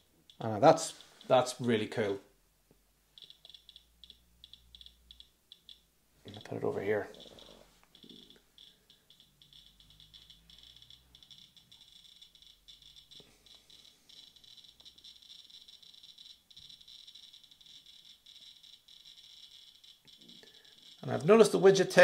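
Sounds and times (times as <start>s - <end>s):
radiation detector clicking: 0.0s - 1.9s, 2.7s - 22.0s.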